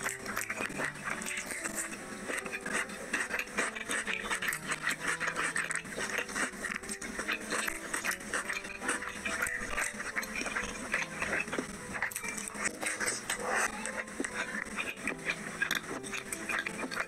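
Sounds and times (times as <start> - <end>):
person chewing and lip-smacking: 0.0 - 17.0.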